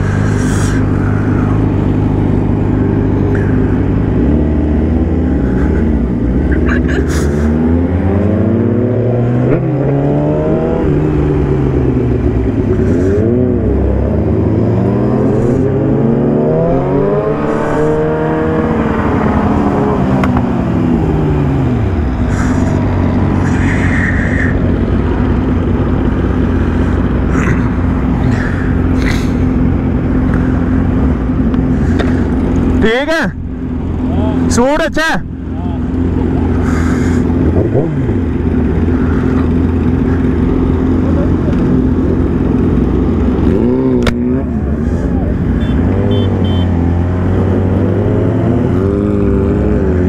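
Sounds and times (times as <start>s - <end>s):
sport bike engine revving: 1.5s - 35.0s, 35.8s - 50.0s.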